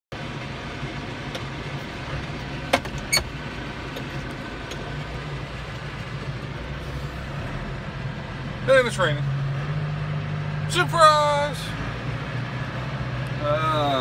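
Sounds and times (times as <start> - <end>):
vehicle engine running: 0.1 - 14.0.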